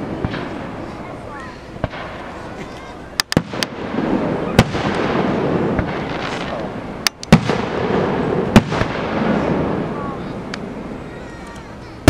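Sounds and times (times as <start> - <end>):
fireworks bangs: 0.0 - 11.6
fireworks crackling: 0.0 - 12.0.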